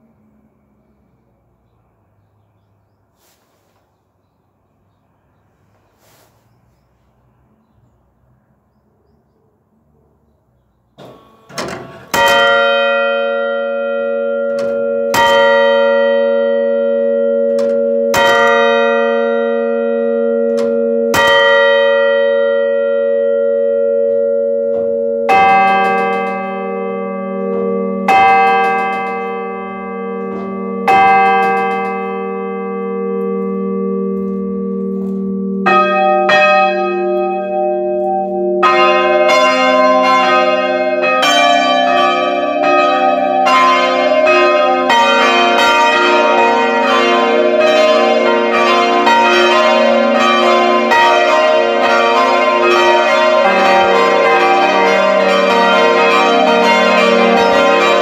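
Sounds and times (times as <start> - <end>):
church bells ringing: 0.0 - 2.8, 11.0 - 58.0
deeper bell ringing: 11.1 - 58.0.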